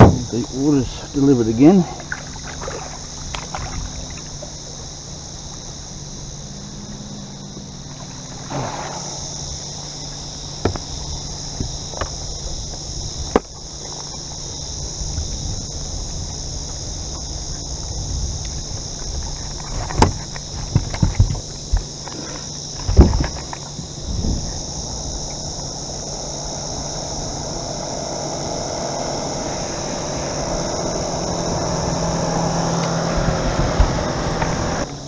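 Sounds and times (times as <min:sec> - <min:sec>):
water swishing: 0:00.0 - 0:12.9, 0:18.7 - 0:34.8
high insect drone: 0:00.0 - 0:35.0
low hum: 0:00.0 - 0:35.0.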